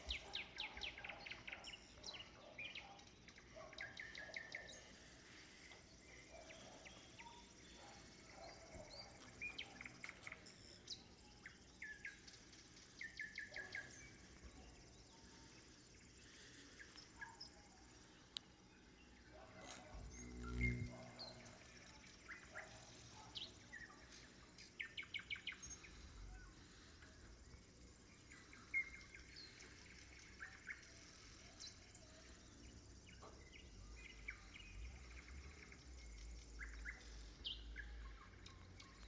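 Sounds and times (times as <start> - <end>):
faint nightingale song: 0.0 - 39.0
rural dawn ambience: 0.0 - 39.0.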